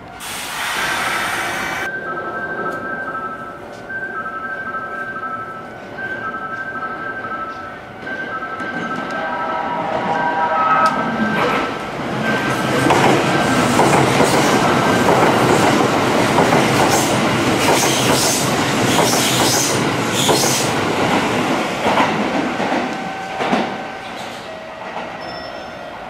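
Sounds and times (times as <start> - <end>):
electric train passing at speed: 0.0 - 26.0.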